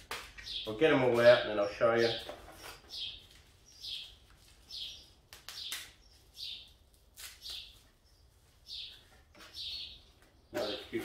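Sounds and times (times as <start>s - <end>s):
bird chirping: 0.1s - 11.0s.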